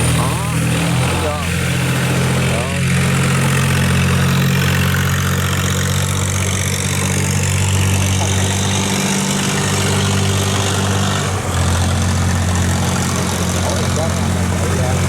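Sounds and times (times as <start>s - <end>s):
boat diesel engine running: 0.0s - 15.0s.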